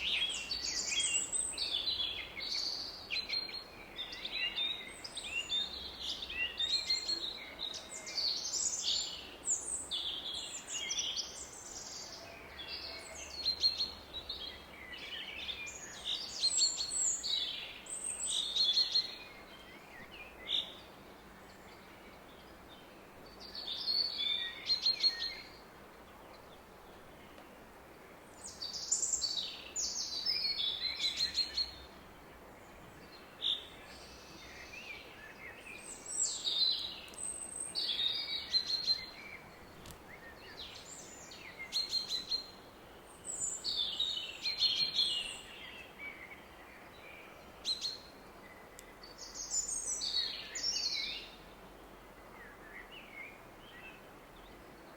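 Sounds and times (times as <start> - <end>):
songbirds singing and chirping: 0.0 - 54.9.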